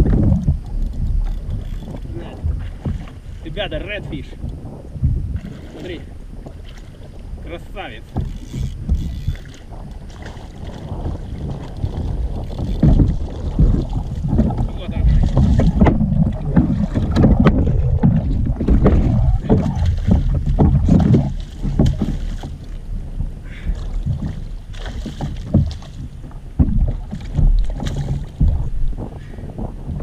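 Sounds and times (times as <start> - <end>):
knocks and splashes from fish: 0.0 - 7.2, 8.0 - 30.0
water slapping around kayak: 0.0 - 30.0
wind buffeting microphone: 0.0 - 30.0.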